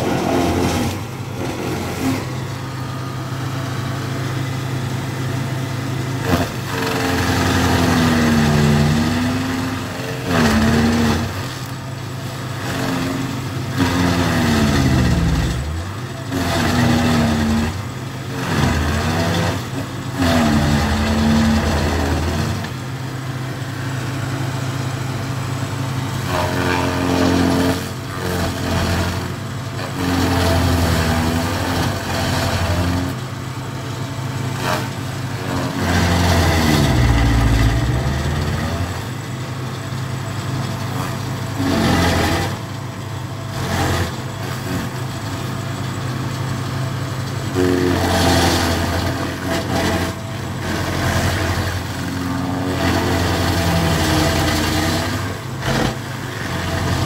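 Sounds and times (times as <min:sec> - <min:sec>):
cutting wheel grinding stump: 0:00.0 - 0:46.6, 0:47.2 - 0:57.0
stump grinder engine running: 0:00.0 - 0:57.0.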